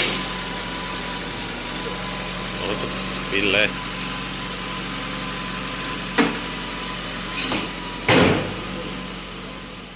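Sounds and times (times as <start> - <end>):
engine idling: 0.0 - 9.9.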